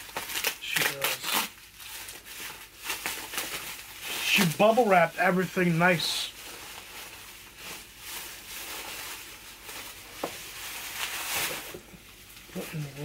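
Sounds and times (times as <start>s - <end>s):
bubble wrap rustling and crinkling: 0.0s - 13.0s.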